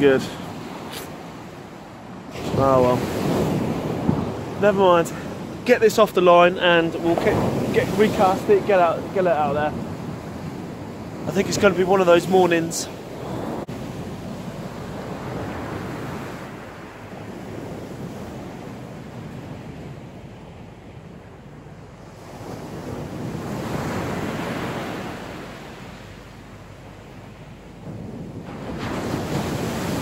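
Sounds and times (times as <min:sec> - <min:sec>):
sea surf washing onto beach: 0:00.0 - 0:30.0.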